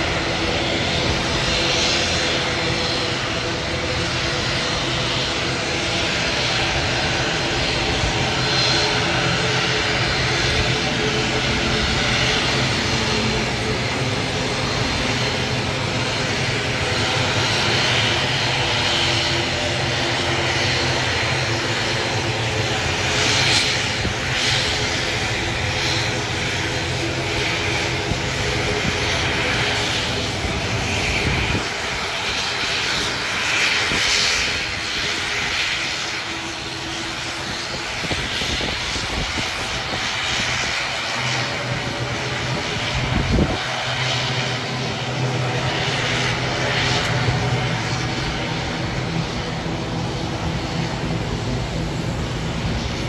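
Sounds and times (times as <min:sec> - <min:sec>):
airplane engines droning: 0:00.0 - 0:53.0.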